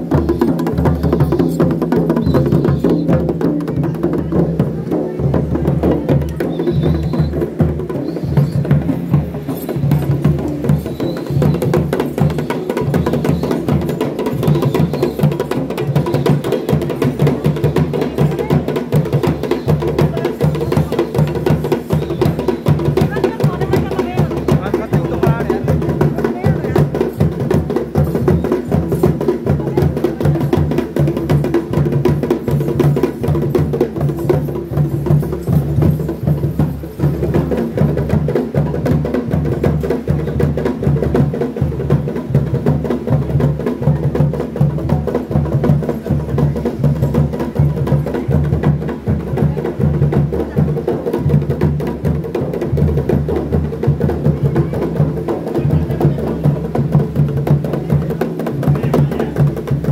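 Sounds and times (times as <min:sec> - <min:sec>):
drum beaten in steady rhythm: 0:00.0 - 0:59.9.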